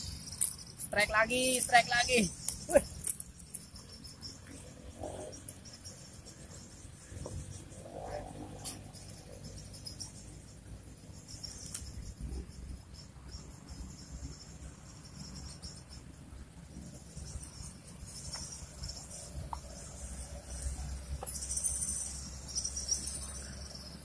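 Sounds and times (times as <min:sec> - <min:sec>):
high insect chirring: 0:00.0 - 0:24.0.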